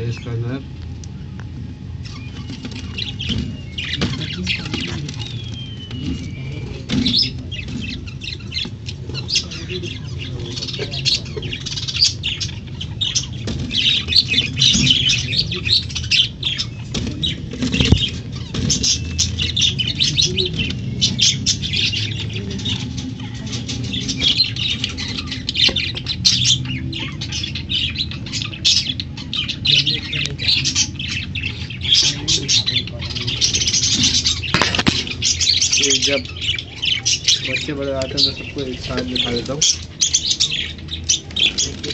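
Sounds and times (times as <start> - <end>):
low steady rumble: 0.0 - 41.6
budgerigars chirping: 0.0 - 41.9.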